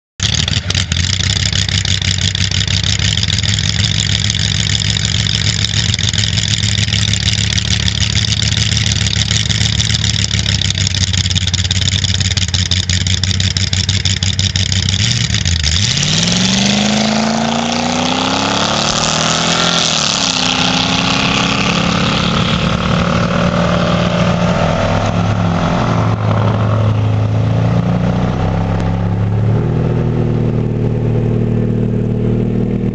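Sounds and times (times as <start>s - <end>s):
race car engine idling and revving: 0.2s - 32.9s.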